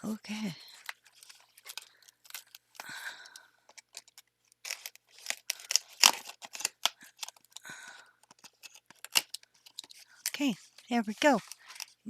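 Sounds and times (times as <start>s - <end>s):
packaging crinkling and crackling: 0.5s - 12.0s.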